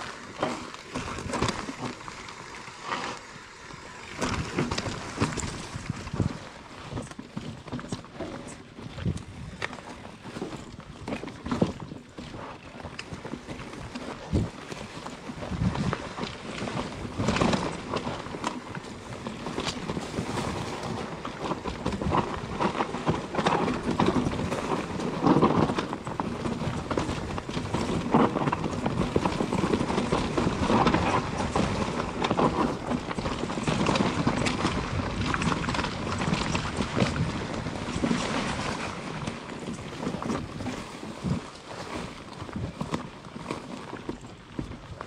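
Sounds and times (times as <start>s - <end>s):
bike rattling over bumps: 0.0s - 12.5s, 13.3s - 41.5s
bike tyres rolling over dirt: 0.0s - 45.0s.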